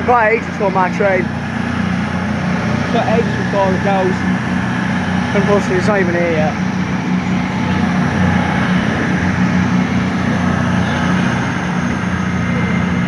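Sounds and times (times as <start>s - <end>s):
train engines idling: 0.0s - 13.0s.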